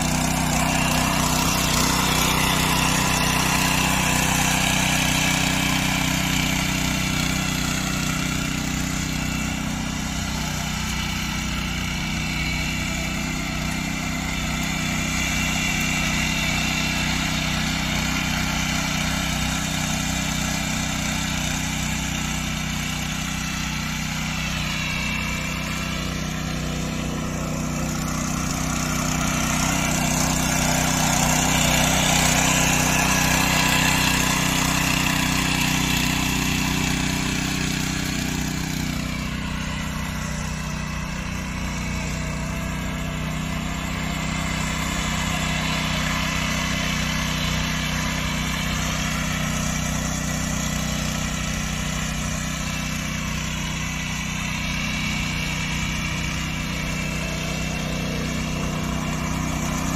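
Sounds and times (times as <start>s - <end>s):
power weeder engine running: 0.0s - 59.9s
rotary tines churning soil: 0.0s - 59.9s.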